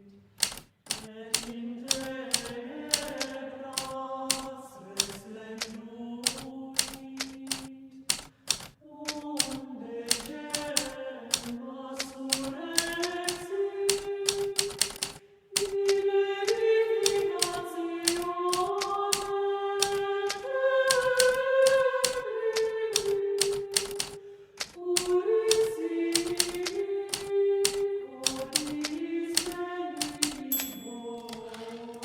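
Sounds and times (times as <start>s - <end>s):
typewriter keys striking: 0.4s - 32.0s.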